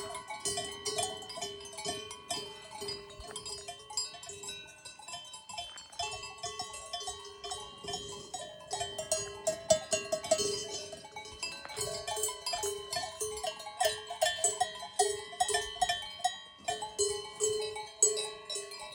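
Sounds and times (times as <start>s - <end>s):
cowbells clanking: 0.0s - 18.9s.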